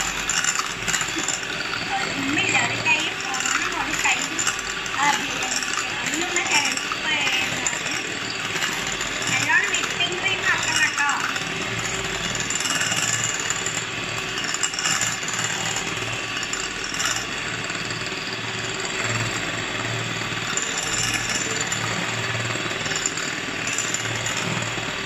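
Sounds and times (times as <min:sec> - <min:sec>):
electric hand mixer whipping cream: 0:00.0 - 0:25.0.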